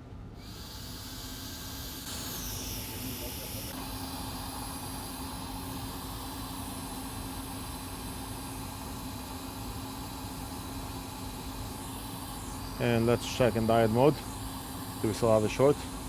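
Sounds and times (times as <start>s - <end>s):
machine hum with hiss: 0.0s - 16.0s.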